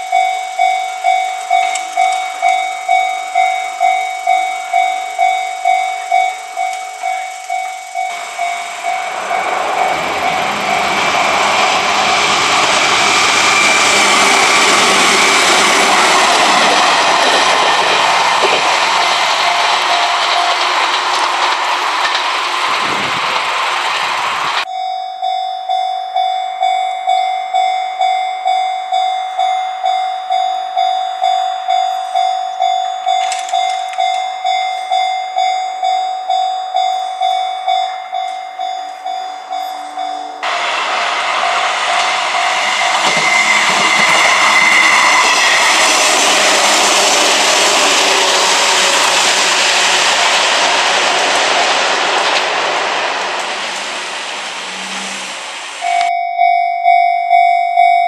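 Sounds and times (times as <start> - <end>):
level crossing warning bell: 0.0 - 20.9, 24.6 - 49.2, 55.8 - 58.0
passing train rushing: 0.0 - 57.5.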